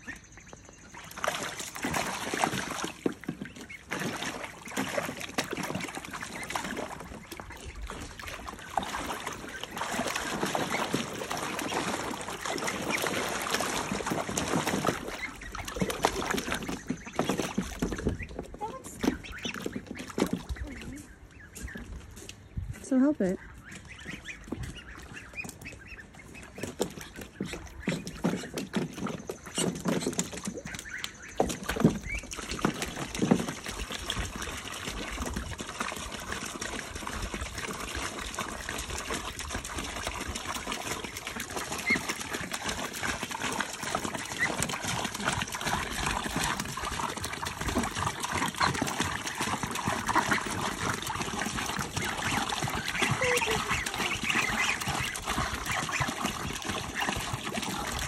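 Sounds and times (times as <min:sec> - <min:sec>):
ducklings and goslings peeping: 0:00.0 - 0:58.0
water splashing in pool: 0:00.8 - 0:21.8, 0:23.8 - 0:58.0
hose pouring water into pool: 0:01.0 - 0:20.5, 0:26.5 - 0:58.0.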